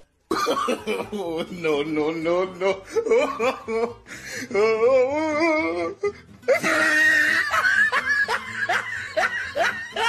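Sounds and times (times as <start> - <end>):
person laughing: 0.3 - 2.0, 2.8 - 10.0.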